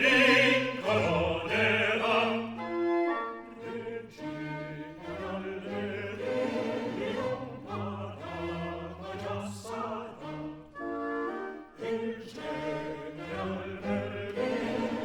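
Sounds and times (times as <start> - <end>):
opera singing voice: 0.0 - 15.0.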